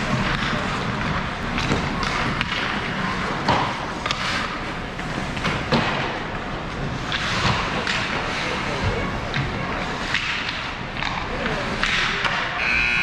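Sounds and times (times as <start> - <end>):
hockey sticks and puck clacking: 0.0 - 12.6.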